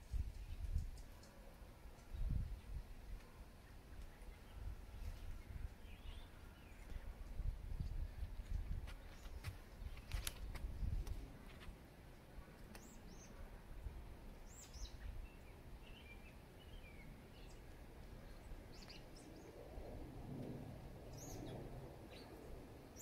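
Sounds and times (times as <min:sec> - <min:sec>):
small birds chirping: 0:00.0 - 0:13.6, 0:14.3 - 0:19.6, 0:21.0 - 0:23.0.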